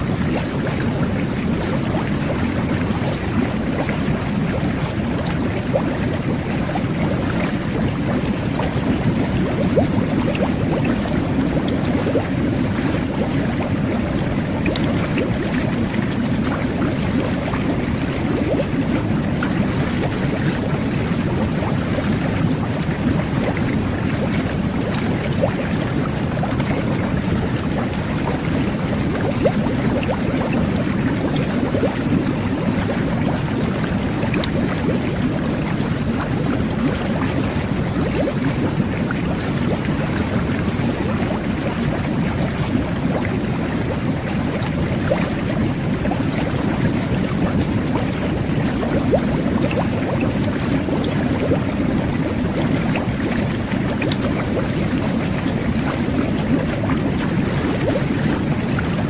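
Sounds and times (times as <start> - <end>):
jacuzzi water bubbling: 0.0 - 59.0.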